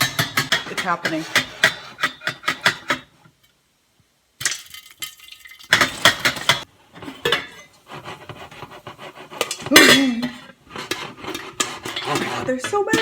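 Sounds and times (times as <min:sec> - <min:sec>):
popcorn popping in a pot: 0:00.0 - 0:03.1, 0:04.4 - 0:13.0
pot scraping and rattling: 0:00.0 - 0:03.2, 0:04.4 - 0:13.0.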